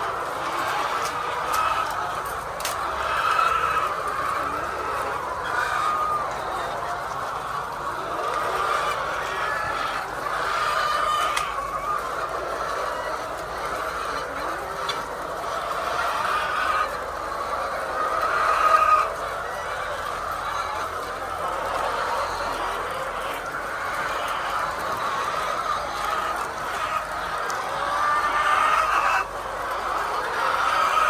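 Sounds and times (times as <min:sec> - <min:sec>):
hens clucking: 0:00.0 - 0:31.0.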